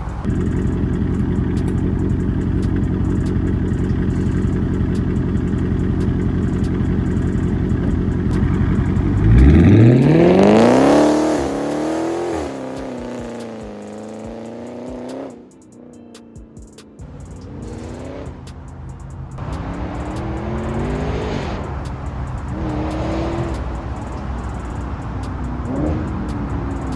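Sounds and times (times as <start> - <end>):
car engine rumbling and revving: 0.0 - 26.9.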